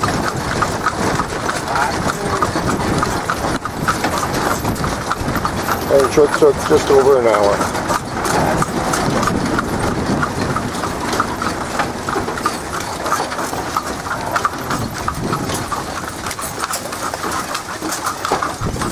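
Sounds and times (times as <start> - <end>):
horse hooves clip-clopping on road: 0.0 - 18.9.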